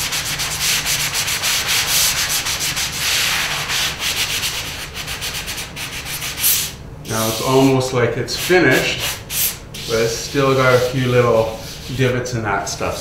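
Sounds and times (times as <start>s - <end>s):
sanding sponge rubbing drywall: 0.0s - 13.0s.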